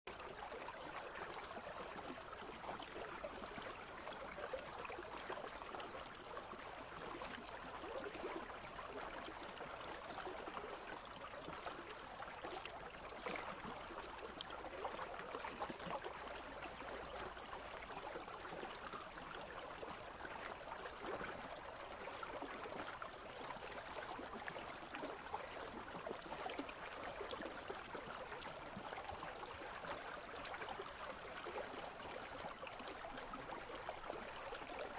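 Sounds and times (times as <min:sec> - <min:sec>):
stream babbling over stones: 0:00.2 - 0:34.9.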